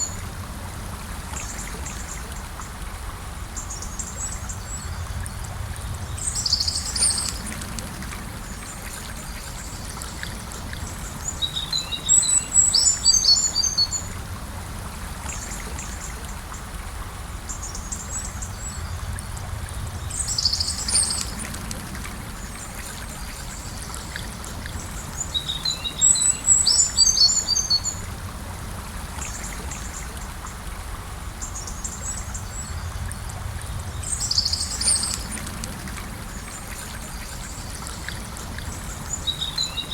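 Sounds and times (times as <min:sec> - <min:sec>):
river flowing: 0:00.0 - 0:39.9
songbirds calling: 0:01.2 - 0:14.4, 0:15.0 - 0:39.9.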